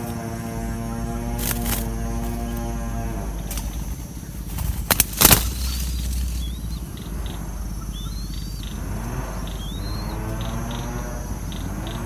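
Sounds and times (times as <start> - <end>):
low steady hum: 0.0 - 12.0
small birds chirping: 0.0 - 12.0
wing flutters: 0.0 - 12.0.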